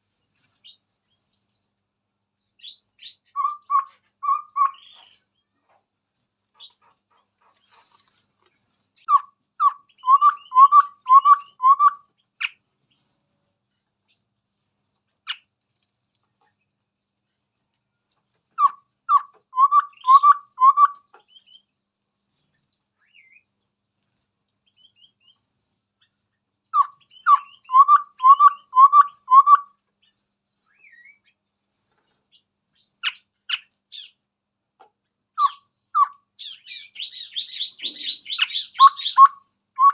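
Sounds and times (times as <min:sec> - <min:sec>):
bird calls: 0:00.0 - 0:01.7, 0:02.6 - 0:05.8, 0:06.5 - 0:15.5, 0:17.5 - 0:39.9
bird singing: 0:02.4 - 0:05.7, 0:09.0 - 0:39.9.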